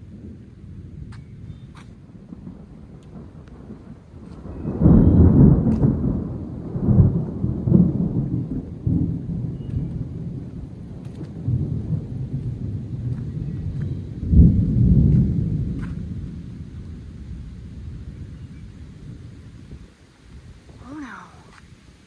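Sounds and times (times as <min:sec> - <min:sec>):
thunder rumbling: 0:00.0 - 0:22.0.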